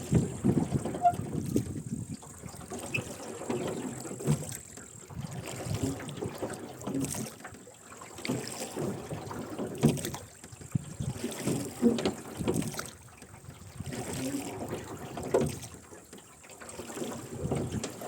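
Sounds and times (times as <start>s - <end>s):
oars splashing: 0.0s - 18.0s
water washing along hull: 0.0s - 18.0s.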